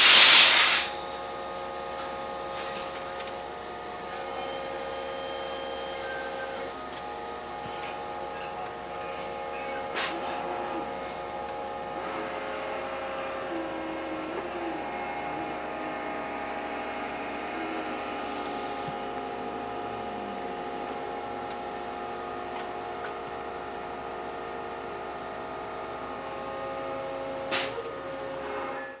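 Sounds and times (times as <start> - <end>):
hydraulic power pack whine: 0.0 - 29.0.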